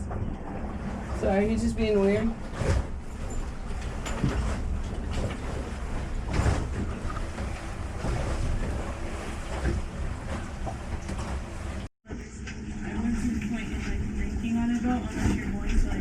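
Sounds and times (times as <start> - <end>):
water rushing along hull: 0.0 - 16.0.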